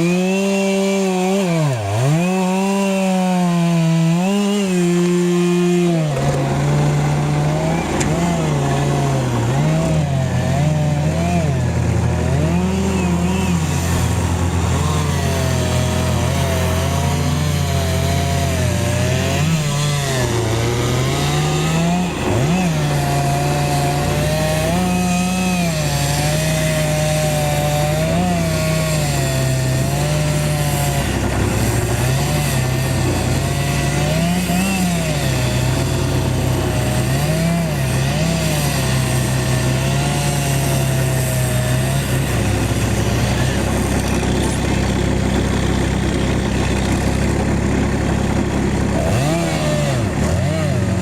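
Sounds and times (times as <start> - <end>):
chainsaw cutting: 0.0 - 51.0.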